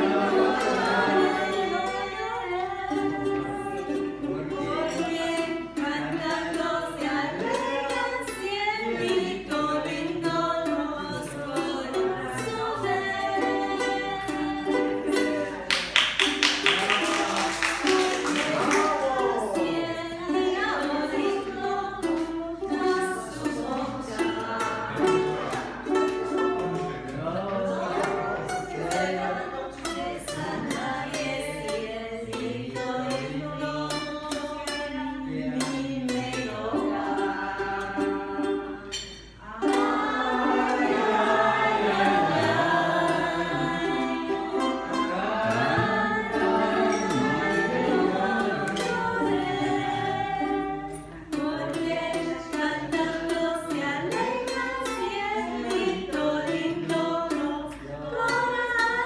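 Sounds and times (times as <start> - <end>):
ukulele strumming: 0.0 - 59.0
voices singing together: 0.0 - 59.0.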